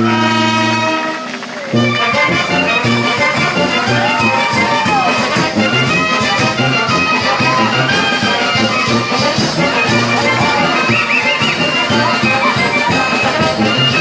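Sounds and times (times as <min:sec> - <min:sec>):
wind band playing folk dance tune: 0:00.0 - 0:14.0.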